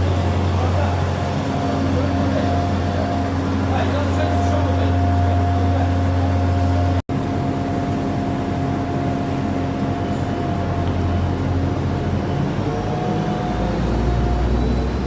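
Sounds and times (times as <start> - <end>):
train engine low drone: 0.0 - 15.0.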